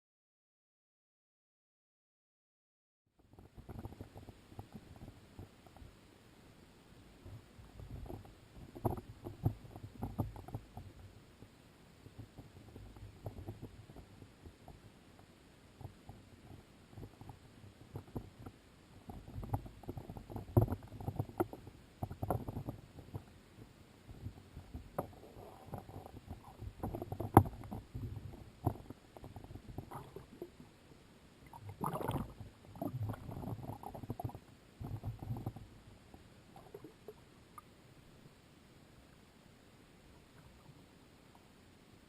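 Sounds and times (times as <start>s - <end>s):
underwater water churning and bubbling: 3.2s - 38.4s.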